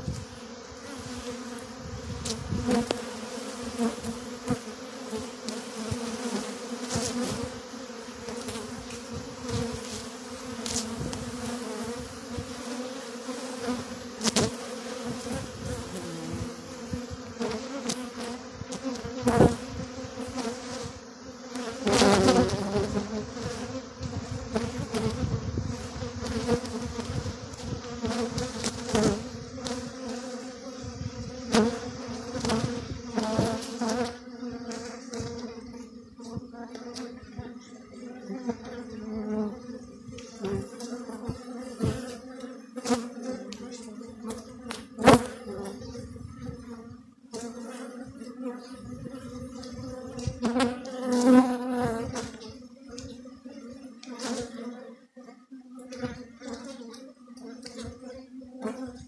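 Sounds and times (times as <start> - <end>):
bees humming around hives: 0.0 - 59.0
single bee flying past: 0.0 - 59.0.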